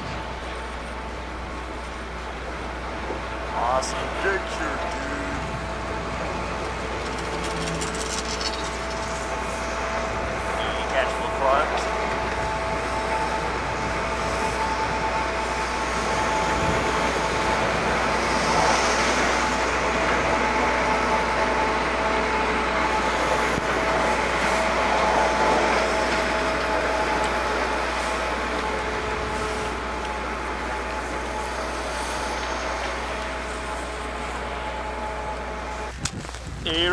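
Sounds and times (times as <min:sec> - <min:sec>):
chairlift machinery whine: 0:00.0 - 0:36.9
rushing hum: 0:00.0 - 0:36.9.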